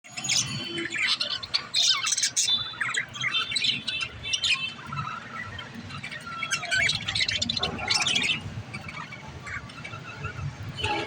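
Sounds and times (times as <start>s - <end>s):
budgerigars chirping: 0.1s - 11.0s.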